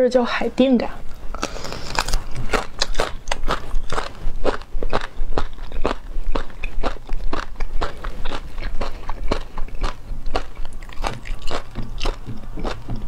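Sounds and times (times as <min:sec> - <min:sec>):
person chewing crunchy food: 0:01.1 - 0:13.0.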